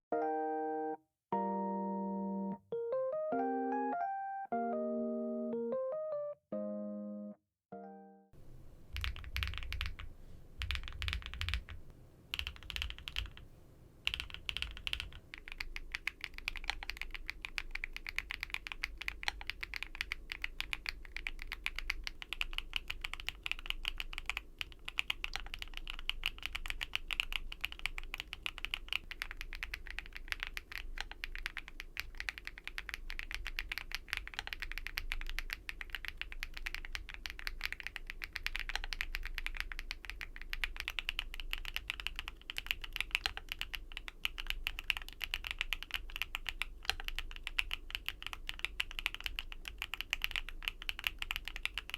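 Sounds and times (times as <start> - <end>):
mechanical keyboard typing: 9.0 - 13.4, 14.0 - 51.9.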